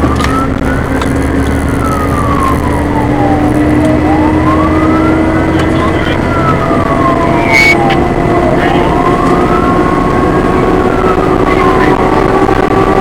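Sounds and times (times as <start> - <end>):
fire engine siren wailing: 0.0 - 13.0
truck engine drone: 0.0 - 13.0.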